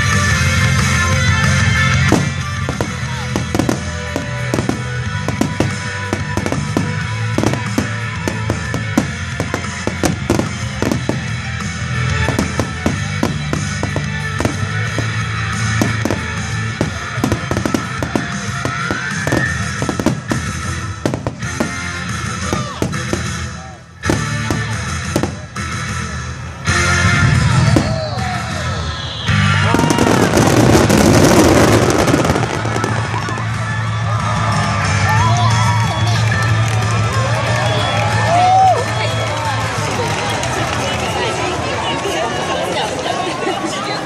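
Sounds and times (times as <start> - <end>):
fireworks bursting and crackling: 0.0 - 26.6, 27.2 - 41.3
background music: 0.0 - 44.0.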